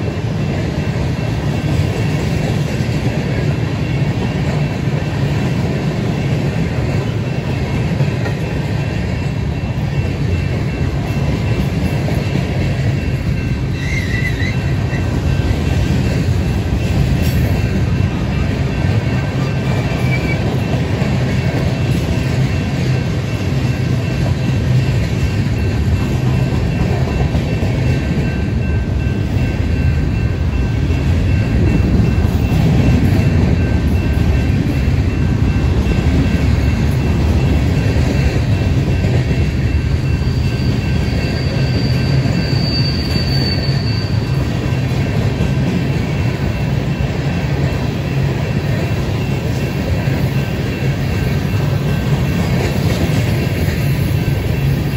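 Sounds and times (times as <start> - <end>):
freight train rumbling past: 0.0 - 54.9
train wheel squeal: 0.0 - 54.9.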